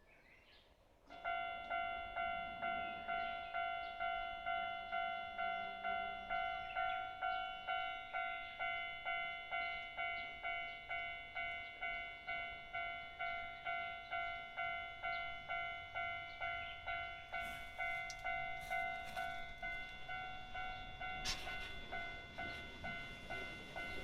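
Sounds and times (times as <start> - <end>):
level crossing bell ringing: 1.2 - 24.0.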